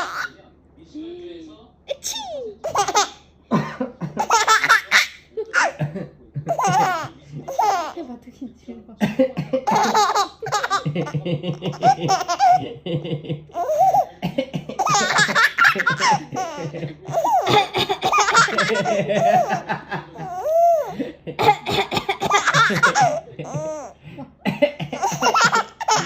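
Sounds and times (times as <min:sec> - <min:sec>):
baby laughing: 0:00.0 - 0:00.4, 0:01.9 - 0:03.2, 0:04.1 - 0:08.0, 0:09.6 - 0:24.0, 0:24.7 - 0:26.0.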